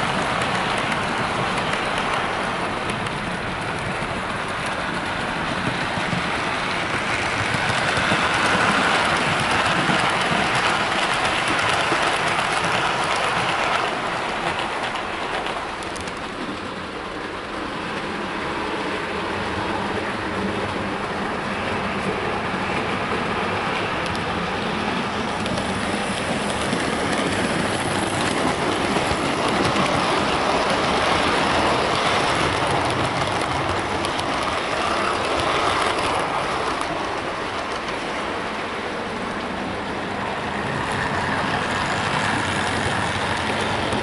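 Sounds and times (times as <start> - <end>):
model train wheels on rail: 0.0 - 44.0.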